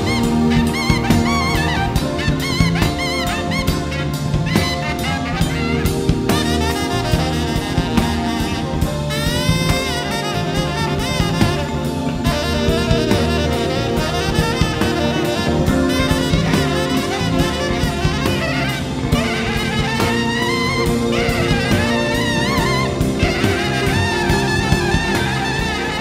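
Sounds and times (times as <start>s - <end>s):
drum kit: 0.0s - 26.0s
electric bass: 0.0s - 26.0s
tenor saxophone soloing: 0.0s - 26.0s.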